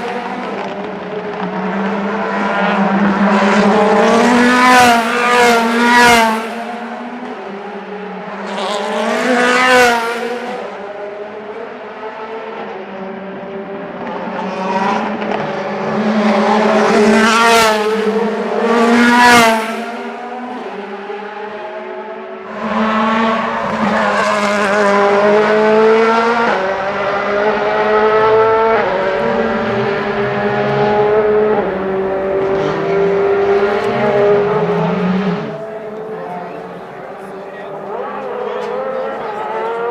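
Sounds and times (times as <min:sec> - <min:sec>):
racing car engines passing by: 0:00.0 - 0:39.9.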